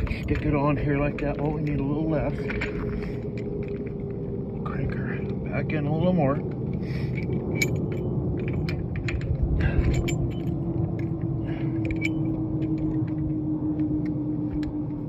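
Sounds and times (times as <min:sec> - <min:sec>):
jet airplane passing overhead: 0:00.0 - 0:15.0.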